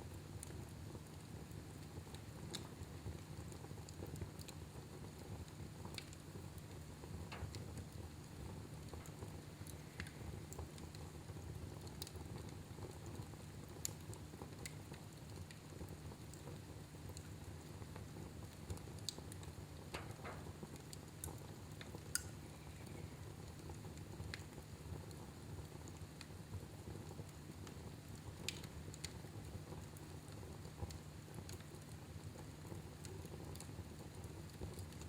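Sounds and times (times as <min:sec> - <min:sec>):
fire crackling and popping: 0:00.1 - 0:35.0.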